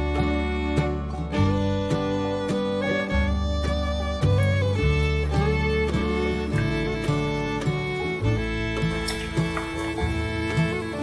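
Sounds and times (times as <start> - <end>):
instrumental string music: 0.0 - 11.0.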